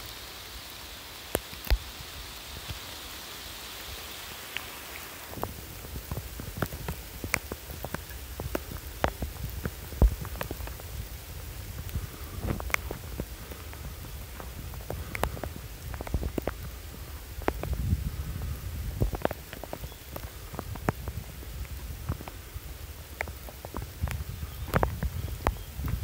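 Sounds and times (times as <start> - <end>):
rain falling: 0.0 - 26.0
sharp drips of raindrops: 0.0 - 26.0.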